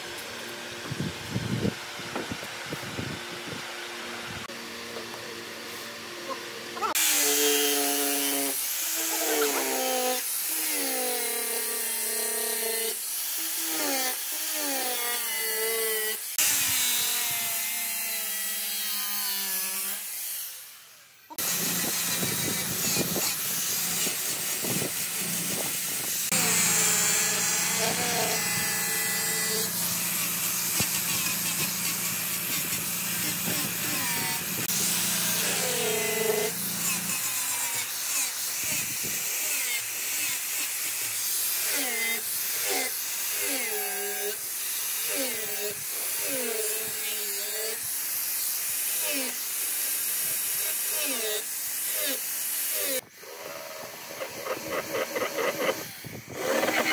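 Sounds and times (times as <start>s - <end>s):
angle grinder sanding wood: 4.4s - 56.9s.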